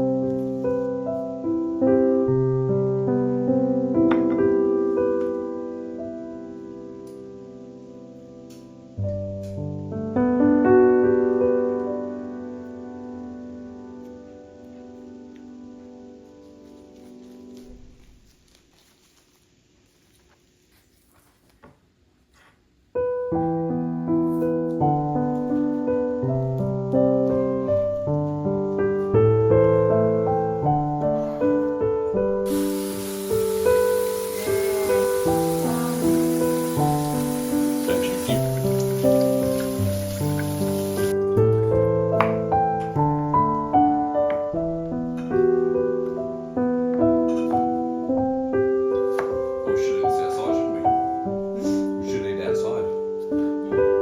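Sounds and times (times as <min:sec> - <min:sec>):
calm piano music: 0:00.0 - 0:18.6, 0:22.9 - 0:54.0
steady hiss: 0:00.0 - 0:23.2, 0:29.9 - 0:41.5, 0:42.5 - 0:54.0.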